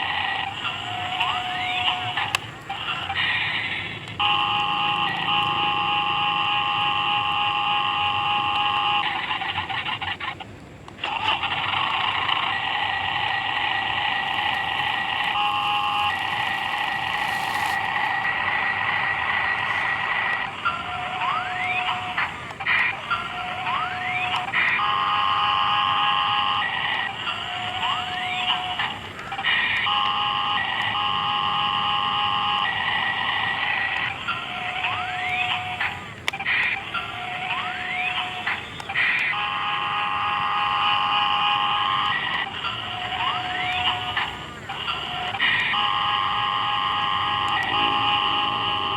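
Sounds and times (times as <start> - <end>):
electric motors and gears whining: 0.0 - 48.9.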